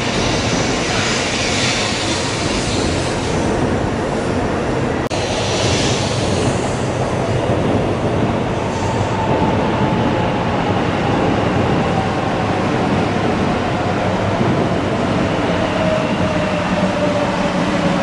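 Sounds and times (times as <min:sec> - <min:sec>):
train wheel and air rush: 0:00.0 - 0:04.4, 0:05.0 - 0:18.0.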